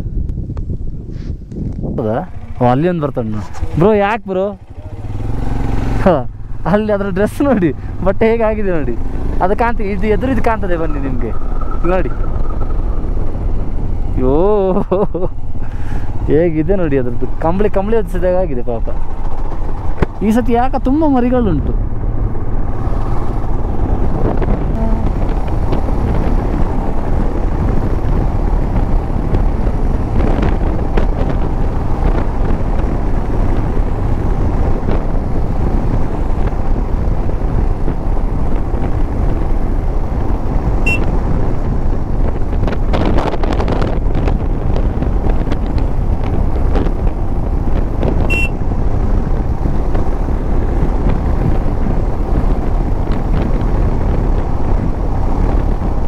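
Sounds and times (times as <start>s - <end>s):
motorcycle engine and tyres: 0.0s - 56.0s
wind buffeting microphone: 0.0s - 56.0s.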